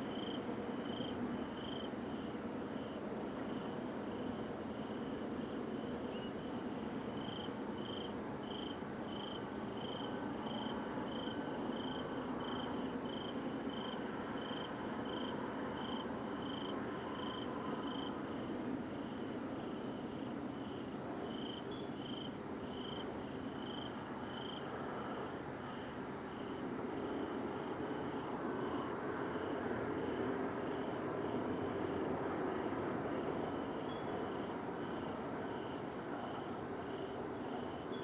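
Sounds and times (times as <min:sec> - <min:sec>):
cricket chirping: 0:00.1 - 0:38.0.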